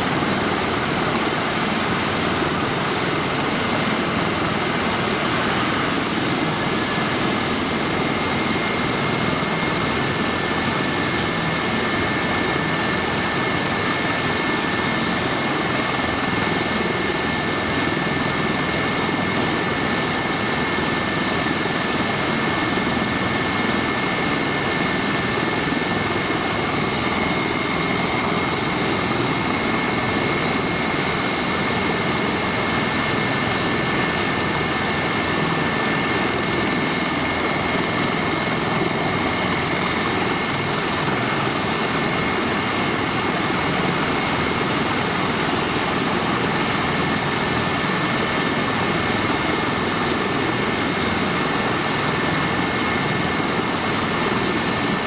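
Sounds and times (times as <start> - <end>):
helicopter engine and rotor noise: 0.0 - 55.0
high turbine whine: 0.0 - 55.0.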